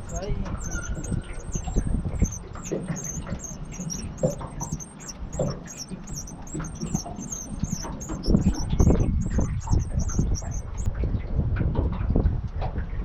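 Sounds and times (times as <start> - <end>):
small birds chirping: 0.0 - 11.2
low rumble: 0.0 - 13.0.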